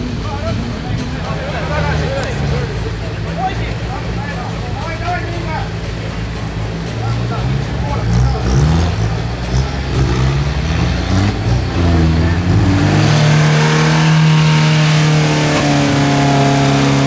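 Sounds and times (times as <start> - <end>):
off-road engines revving: 0.0 - 17.0.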